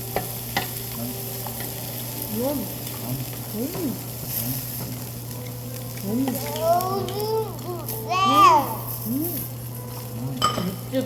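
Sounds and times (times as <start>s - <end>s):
beef sizzling on a grill: 0.0s - 11.0s.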